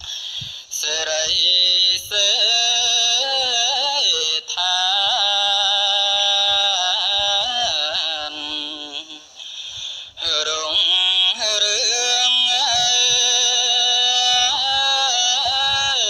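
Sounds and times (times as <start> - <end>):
monk chanting into microphone: 0.8 - 9.4, 10.2 - 16.0.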